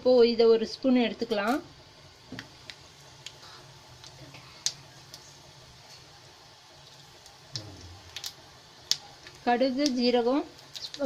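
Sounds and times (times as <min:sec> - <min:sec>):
seeds crackling in hot oil: 0:00.0 - 0:11.0.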